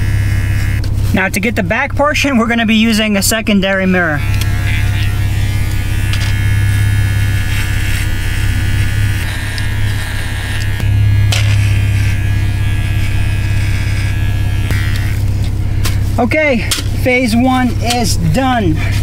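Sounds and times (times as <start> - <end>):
electric hair clippers buzzing: 0.0 - 1.2, 2.2 - 19.0.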